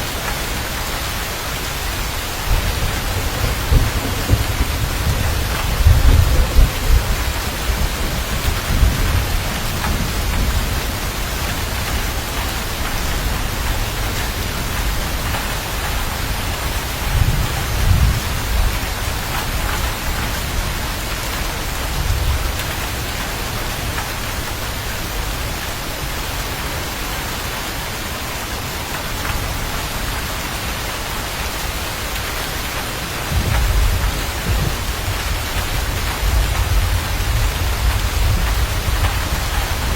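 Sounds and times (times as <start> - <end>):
steady rain: 0.0 - 39.9
thunder rumbling: 0.2 - 26.5, 32.8 - 39.9.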